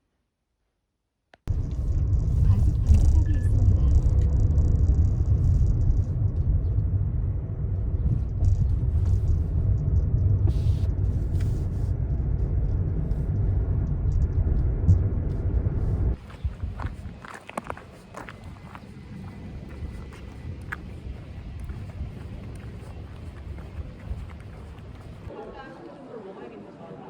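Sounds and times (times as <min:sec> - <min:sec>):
steady low rumble: 0:01.5 - 0:25.6.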